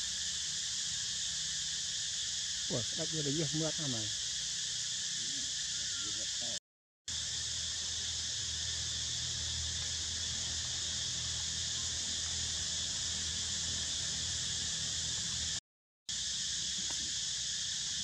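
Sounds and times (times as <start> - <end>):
insects chorus: 0.0 - 18.0.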